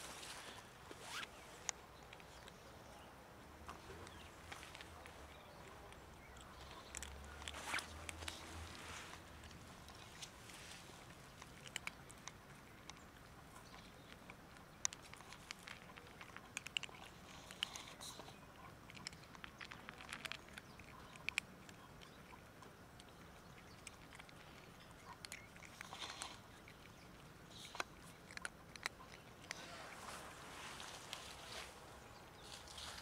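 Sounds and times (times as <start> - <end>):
cats crunching dry kibble: 0.0 - 33.0.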